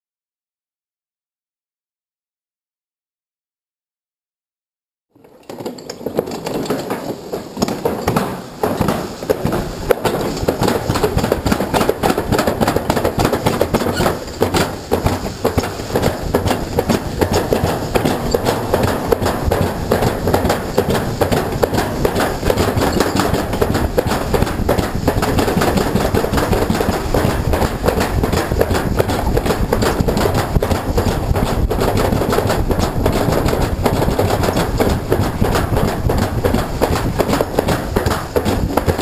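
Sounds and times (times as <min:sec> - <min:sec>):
sled rattling down metal track: 0:05.2 - 0:39.0
steady rushing noise: 0:06.6 - 0:39.0.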